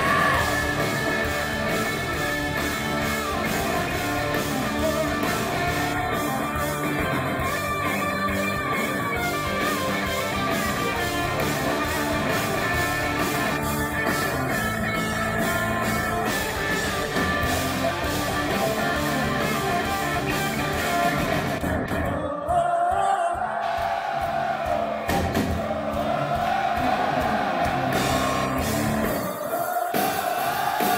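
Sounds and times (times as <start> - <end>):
electric guitars: 0.0 - 22.2, 24.6 - 29.3
bass guitar: 0.0 - 22.4, 24.6 - 29.3
drums: 0.0 - 30.9.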